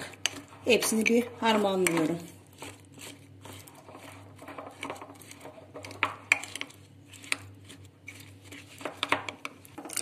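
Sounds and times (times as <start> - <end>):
spoon stirring nuts: 0.0 - 10.0.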